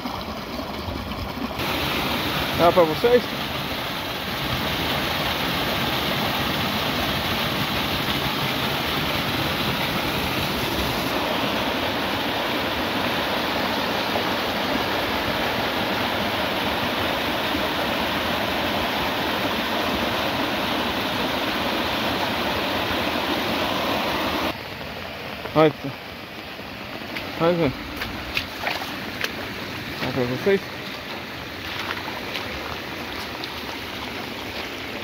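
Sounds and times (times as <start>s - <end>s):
water rushing and splashing: 0.0s - 35.0s.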